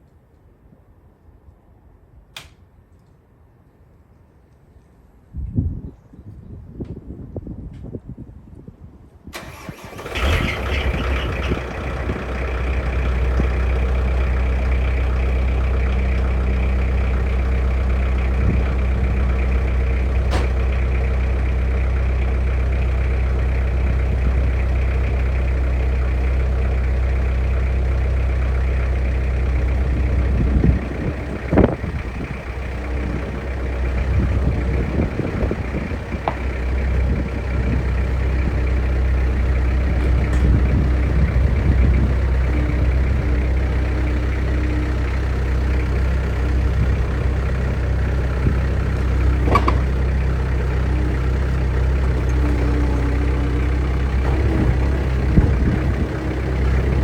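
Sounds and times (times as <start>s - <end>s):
diesel engine cranking and idling: 9.3s - 57.0s.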